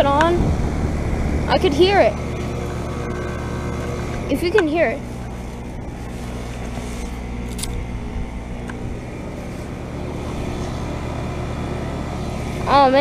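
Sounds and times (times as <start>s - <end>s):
heat pump compressor hum: 0.0s - 13.0s.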